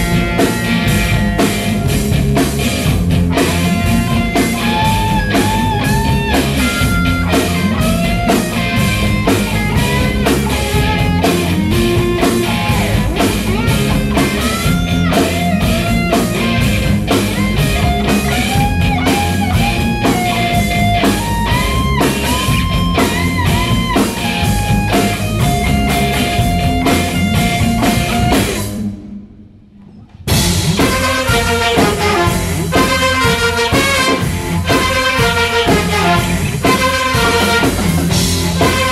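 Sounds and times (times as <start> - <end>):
live rock band playing: 0.0 - 29.1, 30.3 - 38.9
electric guitar bent notes: 0.0 - 38.9.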